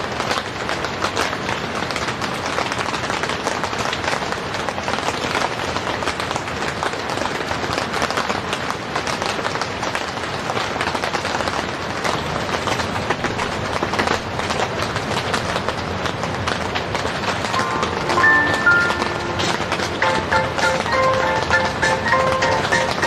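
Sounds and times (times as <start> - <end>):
heavy rain on a tent: 0.0 - 23.0.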